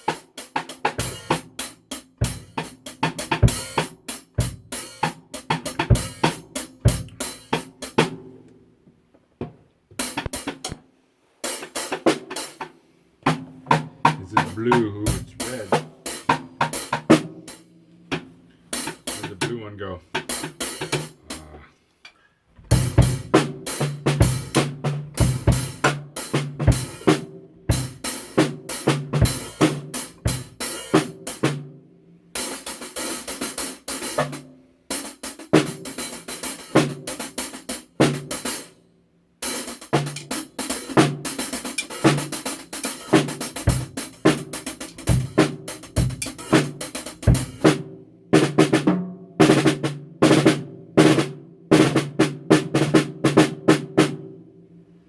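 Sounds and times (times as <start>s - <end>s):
drum kit played: 0.0s - 8.5s, 9.4s - 21.6s, 22.6s - 38.8s, 39.4s - 54.4s.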